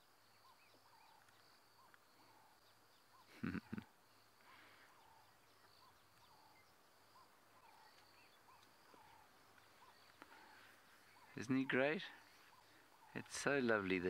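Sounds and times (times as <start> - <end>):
faint insect hiss: 0.0 - 14.0
small bird call: 0.0 - 14.0.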